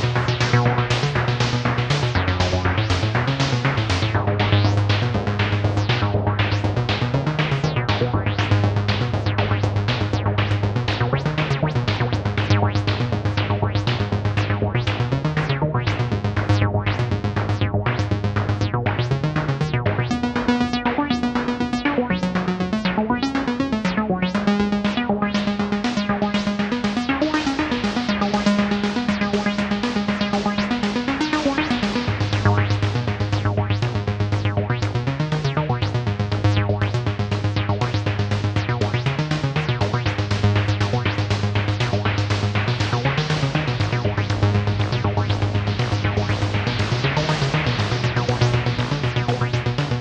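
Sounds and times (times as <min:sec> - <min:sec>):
synthesizer bass tone: 0:00.0 - 0:50.0.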